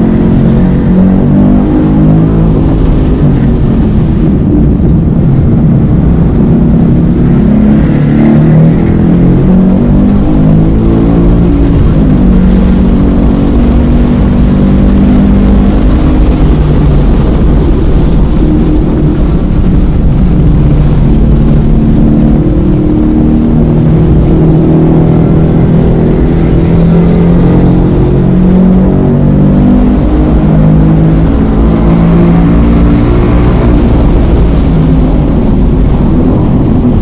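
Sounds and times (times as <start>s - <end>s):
car engine at hard throttle: 0.0s - 37.0s.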